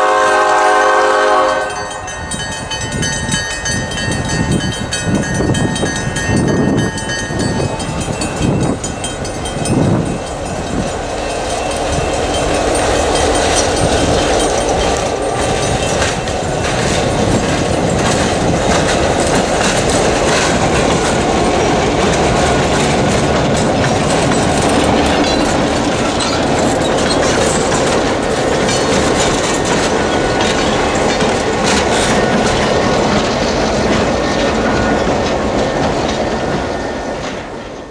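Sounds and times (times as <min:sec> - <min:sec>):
locomotive engine rumble: 0:00.1 - 0:37.8
train wheels knocking over rails: 0:02.3 - 0:37.8.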